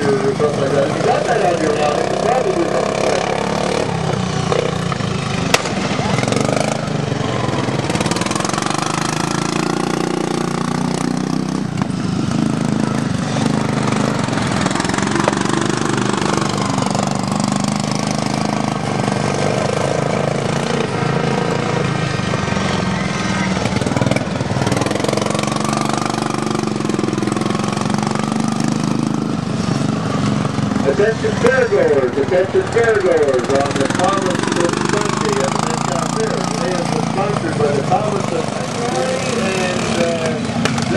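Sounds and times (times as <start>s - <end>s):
lawn mower engine revving: 0.0s - 40.9s.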